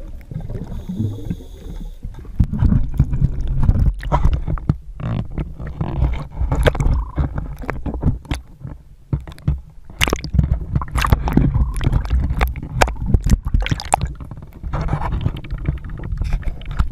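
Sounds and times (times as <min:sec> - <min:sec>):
water sloshing and splashing: 0:00.0 - 0:16.9.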